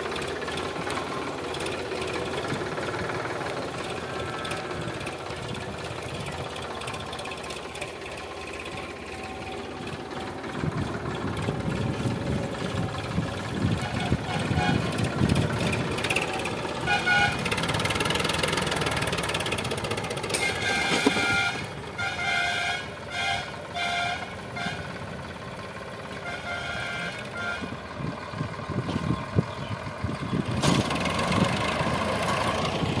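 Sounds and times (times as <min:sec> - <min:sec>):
rotary tiller in soil: 0:00.0 - 0:24.8, 0:30.3 - 0:33.0
tractor diesel engine under load: 0:00.0 - 0:33.0.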